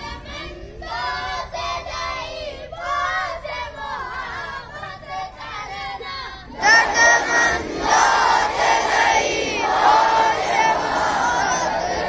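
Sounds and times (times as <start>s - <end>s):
boys chanting a prayer: 0.0s - 12.0s.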